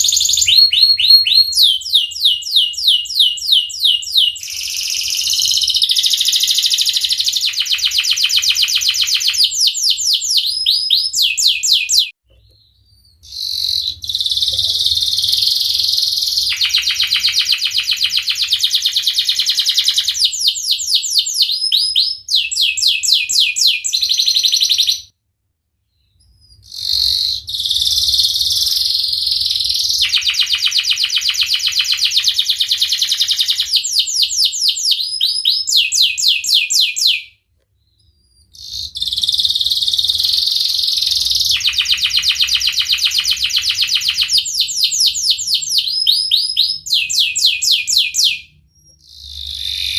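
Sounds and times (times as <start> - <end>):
canary singing trills: 0.0 - 25.1, 25.9 - 49.9.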